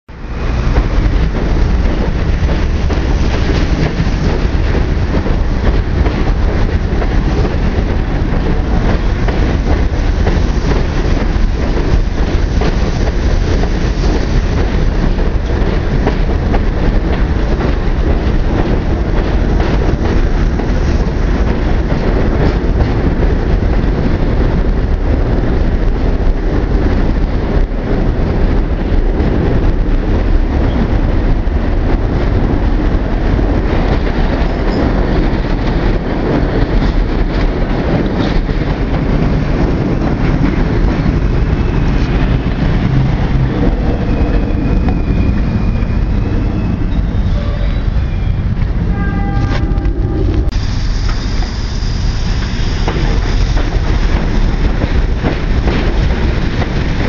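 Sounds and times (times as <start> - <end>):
train wheels rumbling on rails: 0.1 - 57.0.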